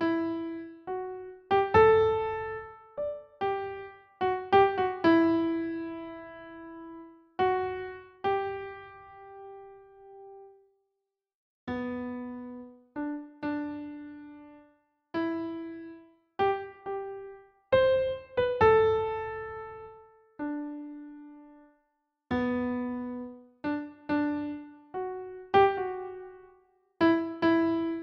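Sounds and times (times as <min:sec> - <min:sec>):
slow piano melody: 0:00.0 - 0:10.6, 0:11.7 - 0:21.7, 0:22.3 - 0:28.0.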